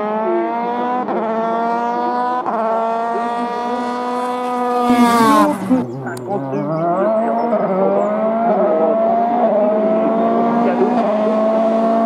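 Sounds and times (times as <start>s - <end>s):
race car engine revving: 0.0s - 12.0s.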